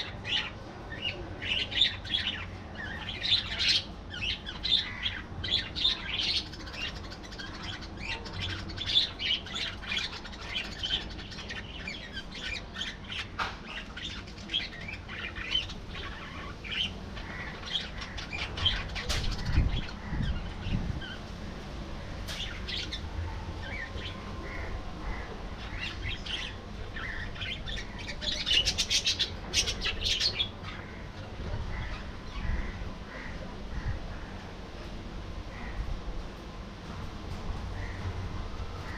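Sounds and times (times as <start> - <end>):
budgerigars chirping and squawking: 0.0 - 21.2, 23.6 - 34.4.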